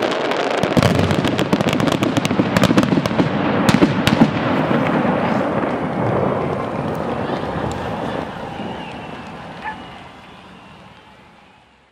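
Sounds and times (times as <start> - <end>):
loud firework bangs: 0.0 - 11.6
fireworks crackling and popping: 0.0 - 11.7.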